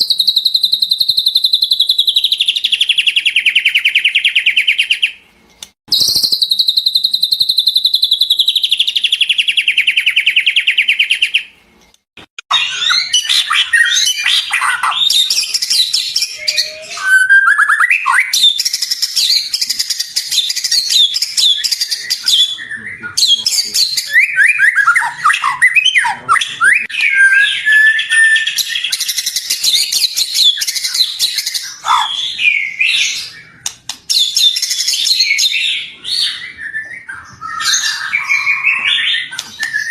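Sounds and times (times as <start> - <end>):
bird singing trills and whistles: 0.0 - 5.2, 5.9 - 11.6, 12.5 - 39.9.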